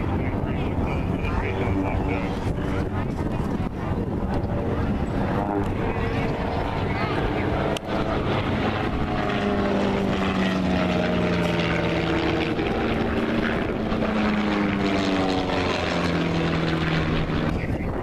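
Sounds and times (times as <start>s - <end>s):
propeller airplane engine droning: 0.0s - 18.0s.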